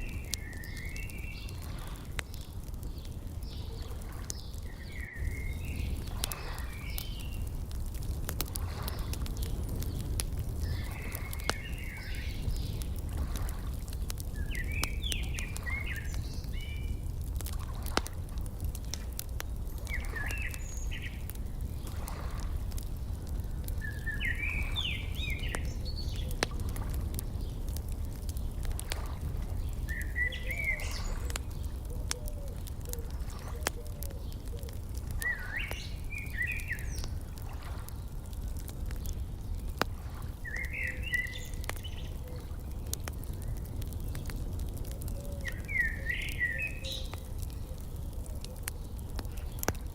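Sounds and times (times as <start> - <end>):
songbird chirping: 0.0 - 7.6, 8.7 - 13.0, 13.8 - 17.1, 18.8 - 22.2, 23.1 - 38.2, 40.4 - 49.8
wood fire crackling and popping: 0.0 - 49.9.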